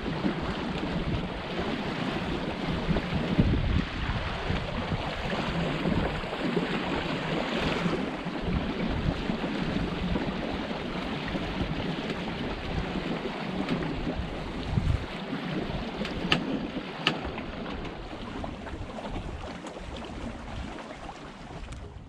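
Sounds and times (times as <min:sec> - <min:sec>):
choppy water slapping hull: 0:00.0 - 0:22.0
wind buffeting microphone: 0:00.0 - 0:22.0.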